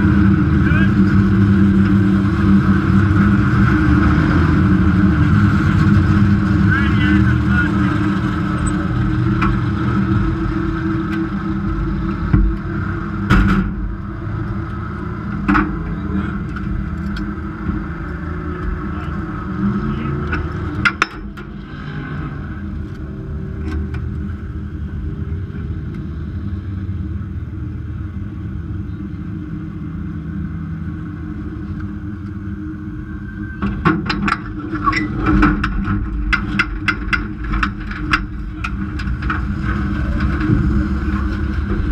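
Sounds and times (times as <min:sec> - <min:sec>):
low engine rumble: 0:00.0 - 0:41.9
race car engine idling: 0:00.0 - 0:41.9.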